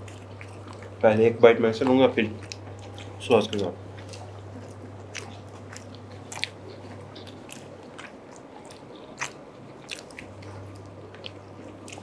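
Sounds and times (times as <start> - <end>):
biting and chewing sandwich: 0.0 - 1.2, 1.8 - 12.0.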